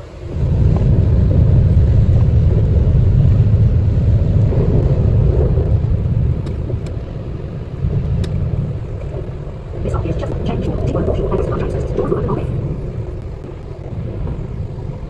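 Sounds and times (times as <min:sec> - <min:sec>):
train rumbling through a tunnel: 0:00.0 - 0:15.0.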